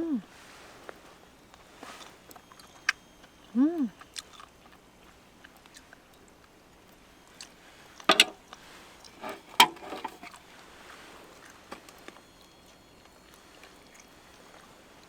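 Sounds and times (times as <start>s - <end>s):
chewing: 0.8s - 15.0s.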